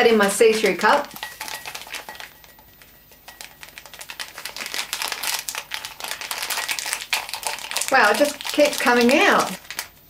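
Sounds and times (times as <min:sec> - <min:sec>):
sachet crinkling: 0:00.6 - 0:10.0
powder pouring into mug: 0:01.1 - 0:10.0.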